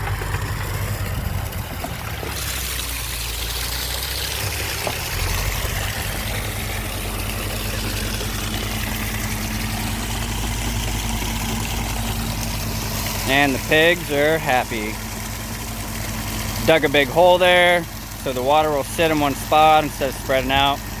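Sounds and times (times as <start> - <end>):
engine idling: 0.0 - 21.0
water gushing from valves: 0.0 - 21.0.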